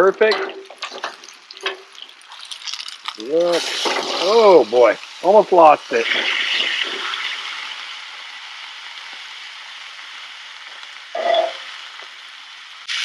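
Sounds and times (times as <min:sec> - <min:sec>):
steak sizzling: 0:00.0 - 0:13.0.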